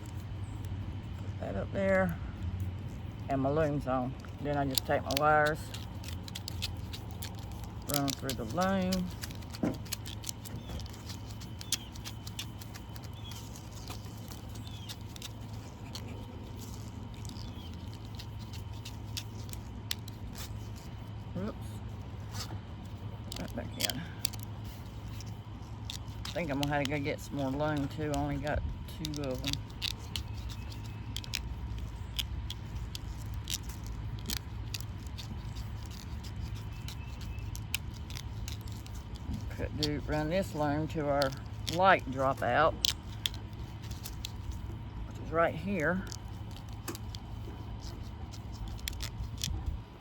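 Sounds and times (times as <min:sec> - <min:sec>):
steady low hum: 0:00.0 - 0:50.0
steady low rumble: 0:00.0 - 0:50.0
wires clicking and rattling: 0:01.9 - 0:21.5, 0:22.3 - 0:50.0.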